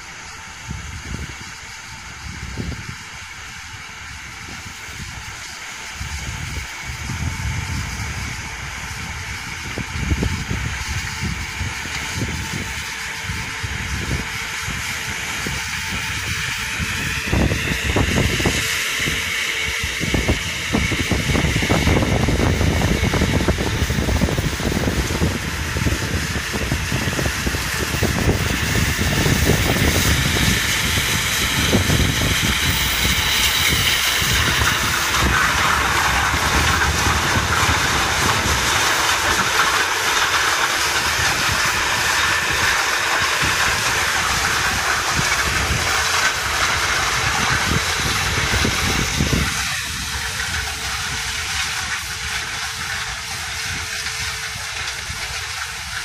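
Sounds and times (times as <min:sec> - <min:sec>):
combine harvester threshing: 0:00.0 - 0:56.0.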